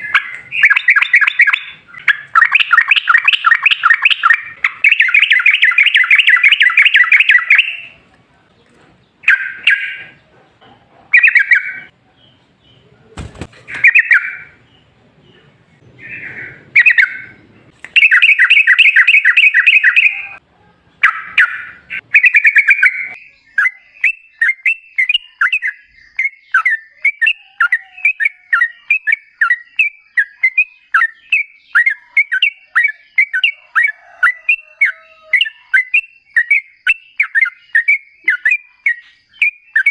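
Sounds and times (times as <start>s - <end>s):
bird singing rapid chattering notes: 0.0s - 8.0s, 11.1s - 20.4s, 21.0s - 39.9s.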